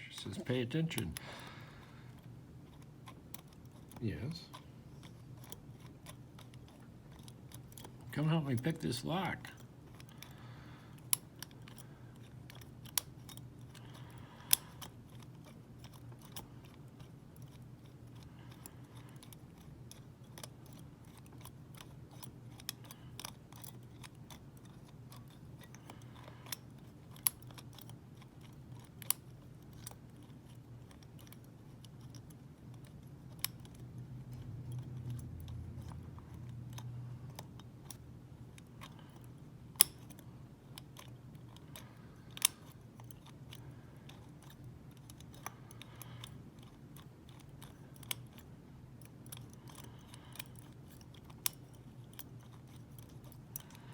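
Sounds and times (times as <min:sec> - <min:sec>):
metal clicks and scrapes in lock: 0:02.1 - 0:53.9.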